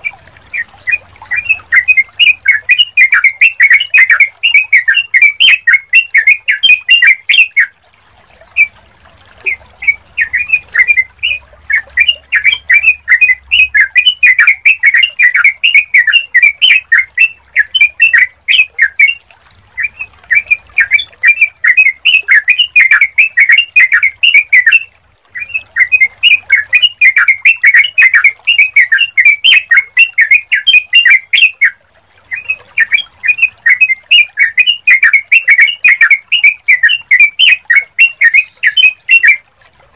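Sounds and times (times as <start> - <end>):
bird chirping rapidly: 0.0 - 7.7, 9.4 - 19.2, 19.8 - 39.4.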